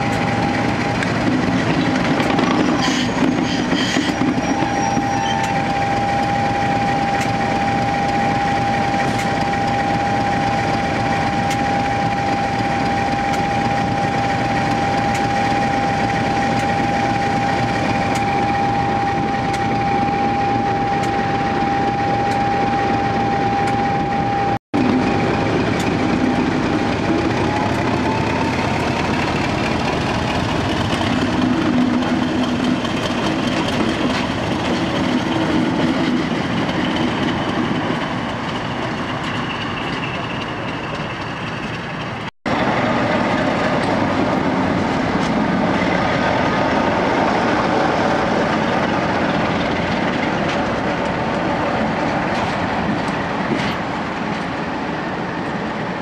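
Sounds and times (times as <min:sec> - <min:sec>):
diesel locomotive engine running: 0:00.0 - 0:56.0
high engine whine: 0:00.0 - 0:56.0.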